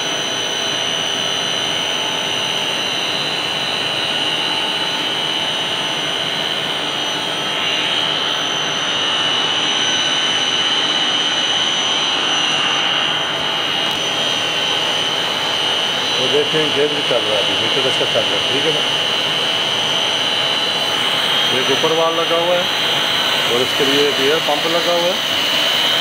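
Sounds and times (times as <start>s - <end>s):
water pump whining: 1.8s - 26.0s.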